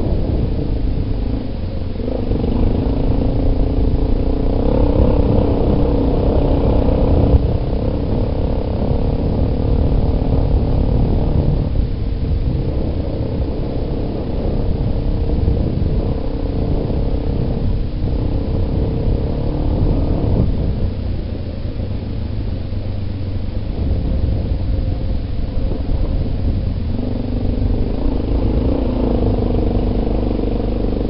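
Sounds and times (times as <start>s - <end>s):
atv engine running: 0.0s - 31.0s
wind rumbling on microphone: 0.0s - 31.0s.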